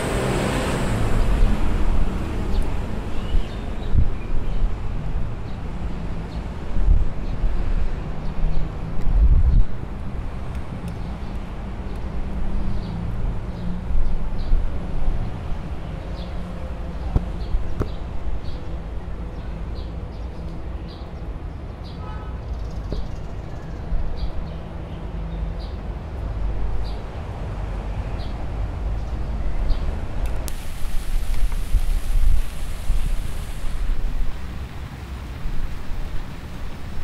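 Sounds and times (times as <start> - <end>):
low rumble of traffic: 0.0 - 37.0.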